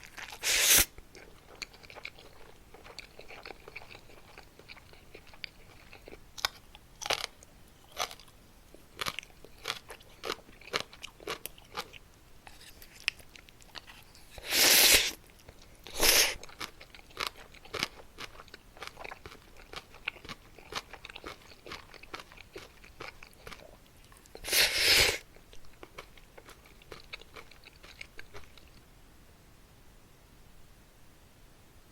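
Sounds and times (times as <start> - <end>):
crunching and chewing snack: 0.0 - 28.8.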